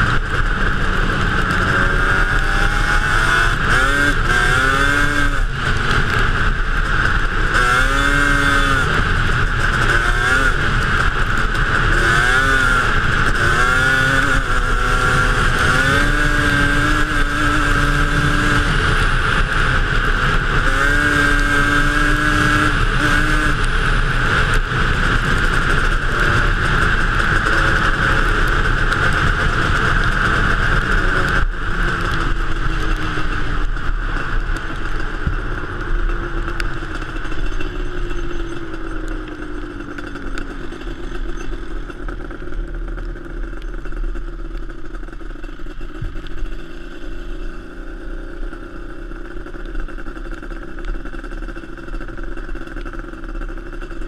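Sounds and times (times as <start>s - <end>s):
quad two-stroke engine running: 0.0s - 54.0s.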